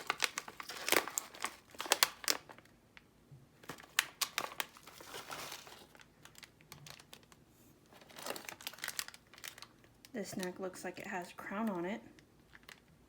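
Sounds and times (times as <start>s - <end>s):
snack wrappers crinkling: 0.0s - 2.7s, 3.6s - 10.6s, 12.1s - 13.0s.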